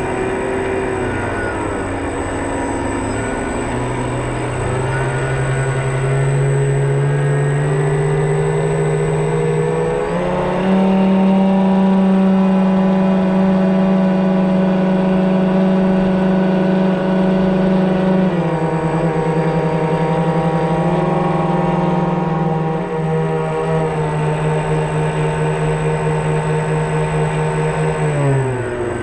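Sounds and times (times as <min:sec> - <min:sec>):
electric motors whining: 0:00.0 - 0:29.0.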